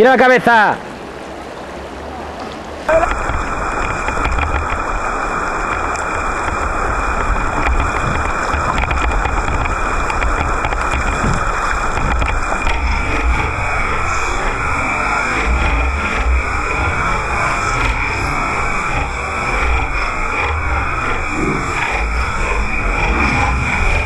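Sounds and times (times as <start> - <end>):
river water rushing: 0.4 - 24.0
wind buffeting microphone: 2.9 - 24.0.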